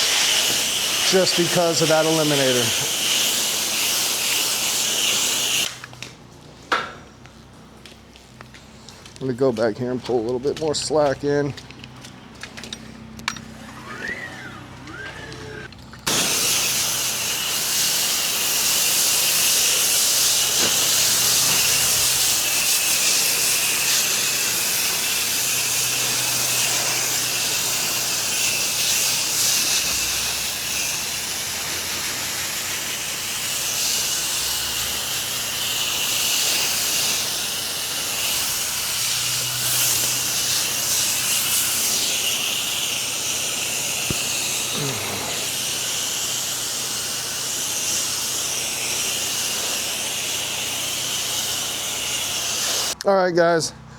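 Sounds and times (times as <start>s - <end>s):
pressure washer spraying water: 0.0s - 5.9s, 13.6s - 53.0s
pressure washer motor hum: 0.0s - 6.1s, 10.4s - 53.1s.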